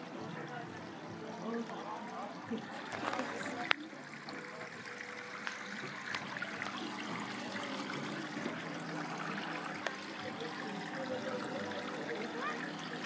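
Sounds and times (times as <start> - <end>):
water trickling in a tank: 0.0 - 13.0.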